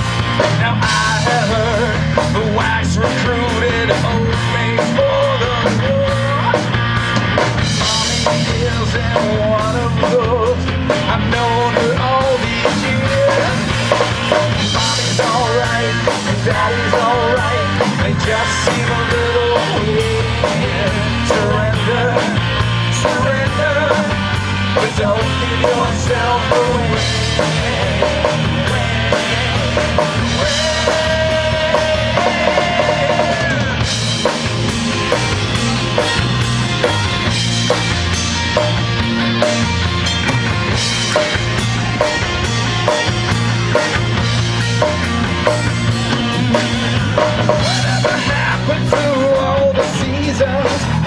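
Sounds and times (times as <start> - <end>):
drum kit: 0.0 - 51.0
electric guitar: 0.0 - 51.0.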